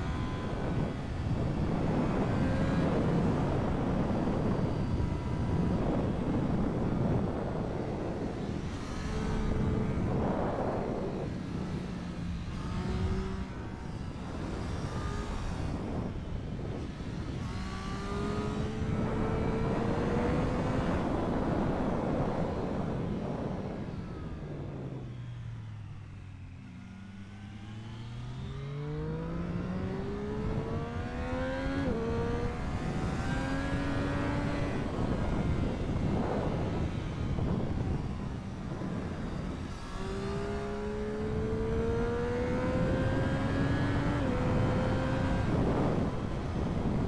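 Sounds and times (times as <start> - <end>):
motorcycle engine accelerating: 0.0 - 47.0
wind rushing over microphone: 0.0 - 47.0.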